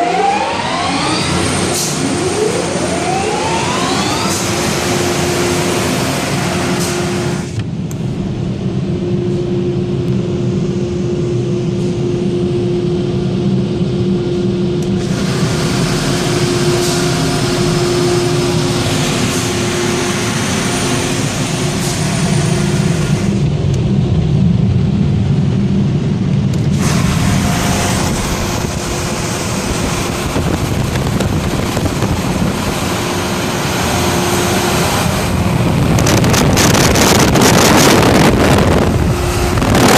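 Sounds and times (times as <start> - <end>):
air dryer blowers roaring: 0.0 - 39.9.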